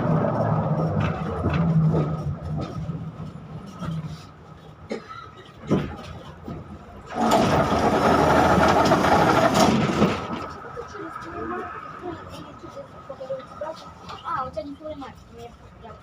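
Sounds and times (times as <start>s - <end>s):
tram humming: 0.0s - 16.0s.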